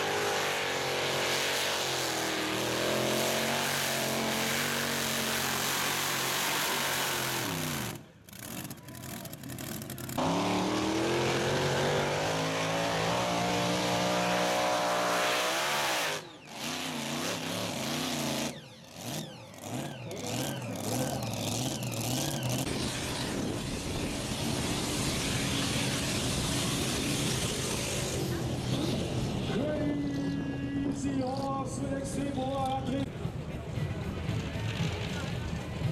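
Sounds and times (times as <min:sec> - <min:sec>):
racing tractor engines under load: 0:00.0 - 0:35.9.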